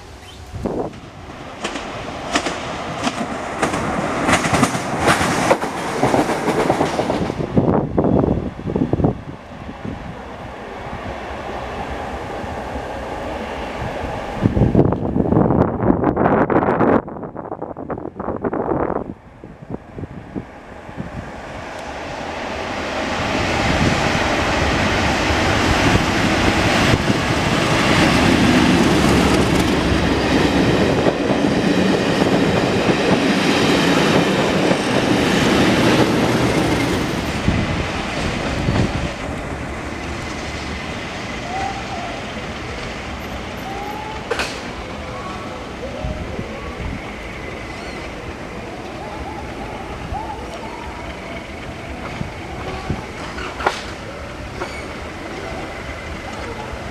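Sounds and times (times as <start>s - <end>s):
diesel locomotive passing: 0.0s - 56.9s.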